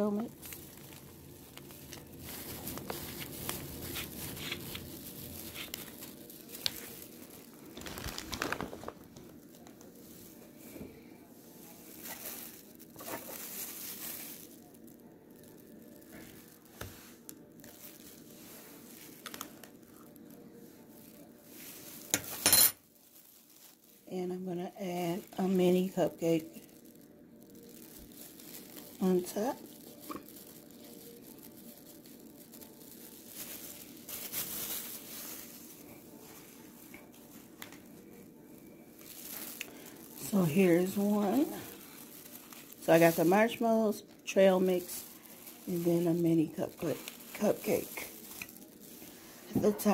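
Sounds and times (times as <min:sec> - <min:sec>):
plastic glove and cups rustling: 0:00.0 - 0:49.9
plastic packaging crinkling: 0:00.0 - 0:49.9.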